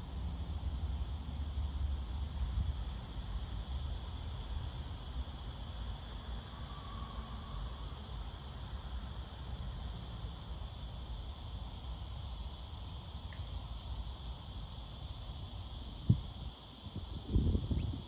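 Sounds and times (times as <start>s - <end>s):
crickets buzzing: 0.0s - 18.0s.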